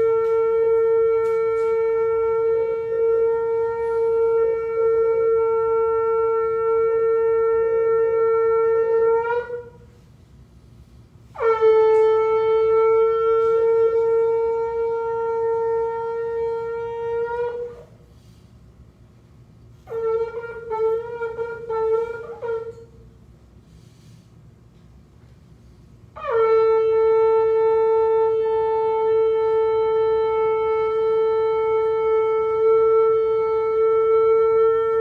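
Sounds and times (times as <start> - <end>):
ram's horn blasts: 0.0 - 10.2, 10.8 - 18.6, 19.6 - 24.1, 25.6 - 35.0.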